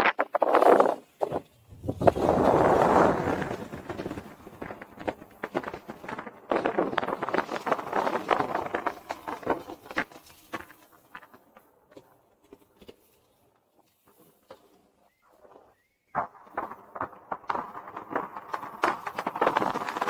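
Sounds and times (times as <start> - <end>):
skis scraping over snow: 0.1 - 14.9, 17.3 - 20.0.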